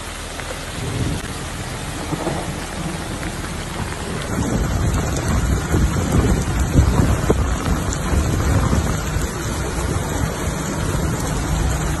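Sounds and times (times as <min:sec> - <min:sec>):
wind and rain: 0:00.0 - 0:12.0
wind rumbling on microphone: 0:00.4 - 0:12.0.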